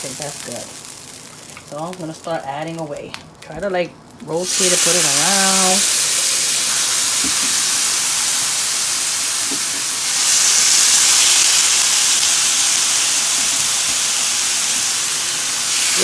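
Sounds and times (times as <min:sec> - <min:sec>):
food sizzling in hot oil: 0:00.0 - 0:02.0, 0:04.4 - 0:16.0.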